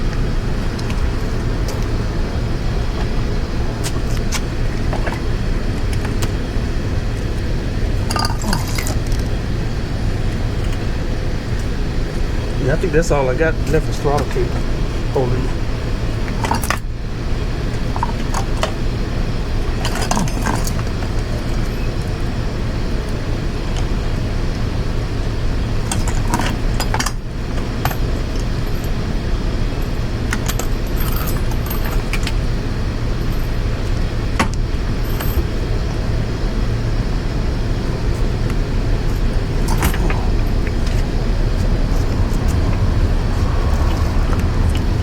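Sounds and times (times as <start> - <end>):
low background rumble: 0.0 - 45.0.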